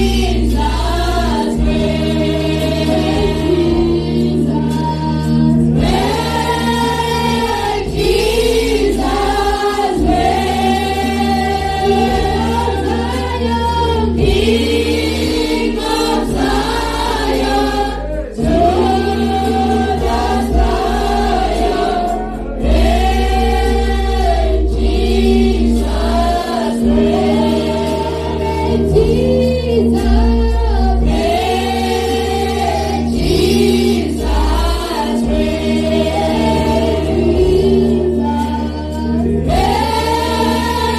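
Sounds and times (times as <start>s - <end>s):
choir singing gospel: 0.0s - 40.9s
instrumental backing with bass: 0.0s - 40.9s.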